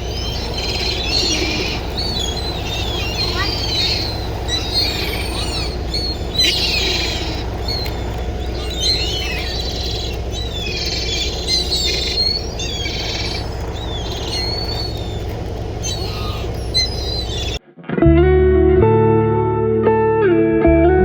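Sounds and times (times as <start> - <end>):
steady low rumble: 0.0 - 17.6
wild birds chirping: 0.0 - 17.6.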